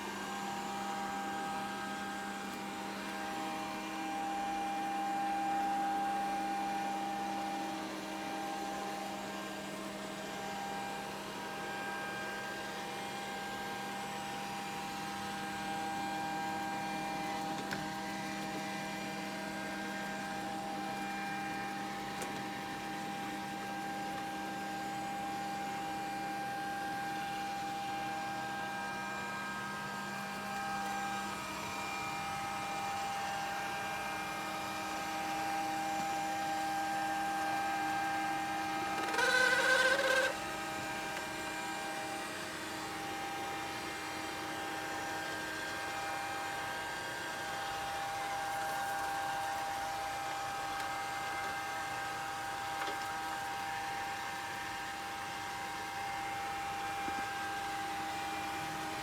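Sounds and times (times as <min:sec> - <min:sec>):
robot vacuum cleaner running: 0:00.0 - 0:59.0.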